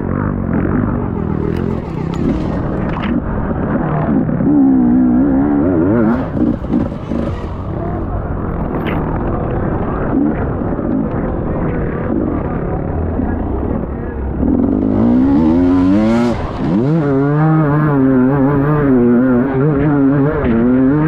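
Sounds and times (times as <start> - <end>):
dirt bike engine revving: 0.0 - 9.2, 11.9 - 21.0.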